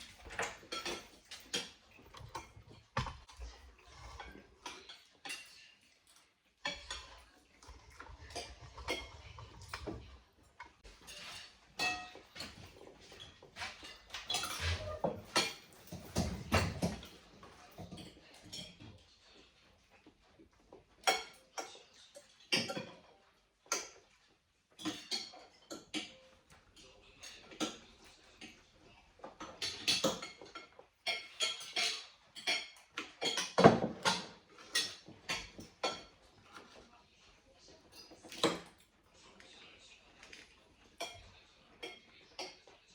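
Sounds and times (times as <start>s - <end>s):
cutlery clinking on plates: 0.0s - 19.6s, 20.7s - 36.9s, 37.8s - 42.9s.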